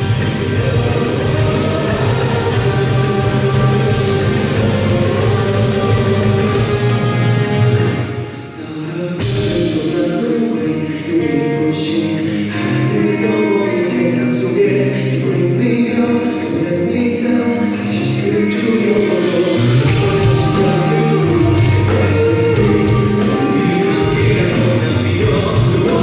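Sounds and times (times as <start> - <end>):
live rock band with singing: 0.0 - 26.0.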